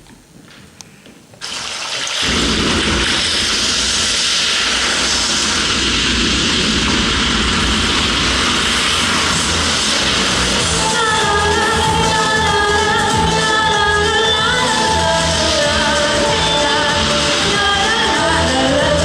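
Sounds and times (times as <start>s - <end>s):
loud rushing noise: 2.2s - 19.0s
deep rumble: 2.3s - 19.0s.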